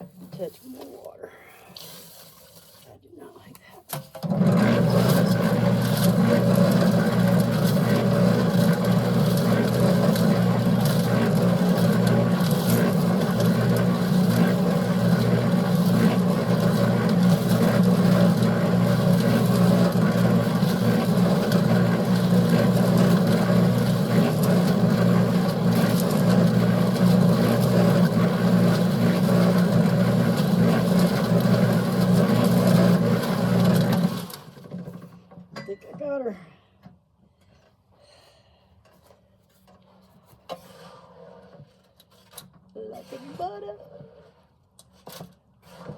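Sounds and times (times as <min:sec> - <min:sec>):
concrete mixer running: 0:03.9 - 0:35.5, 0:38.9 - 0:45.9.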